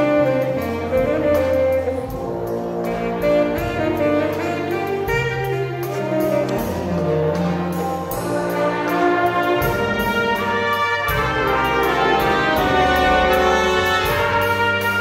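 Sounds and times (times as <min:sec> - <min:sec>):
jazz band playing: 0:00.0 - 0:15.0
saxophones holding chords: 0:00.0 - 0:15.0.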